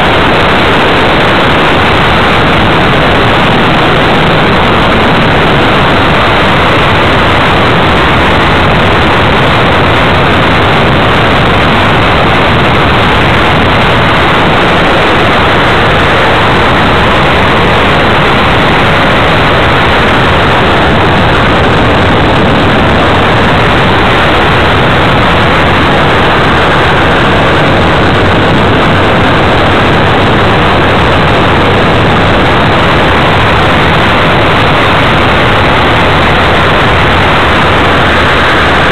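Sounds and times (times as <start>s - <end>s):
airflow rushing: 0.0s - 38.9s
propeller motor: 0.0s - 38.9s.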